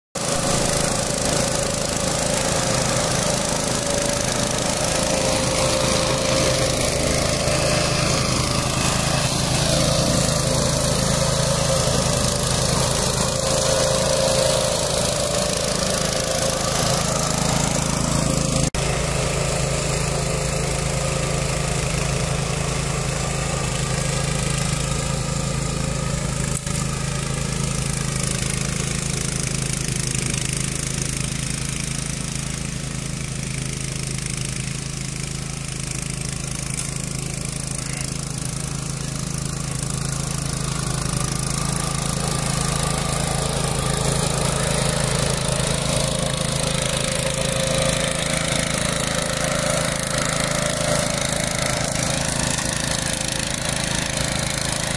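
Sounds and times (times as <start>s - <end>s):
mulcher cutting grass: 0.2s - 54.9s
walk-behind tractor engine running: 0.2s - 54.9s.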